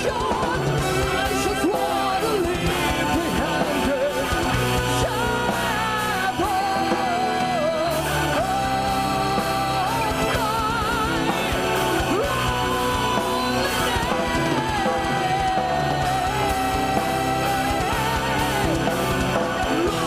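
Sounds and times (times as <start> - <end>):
metal band playing live: 0.0 - 20.0
person singing: 0.0 - 20.0.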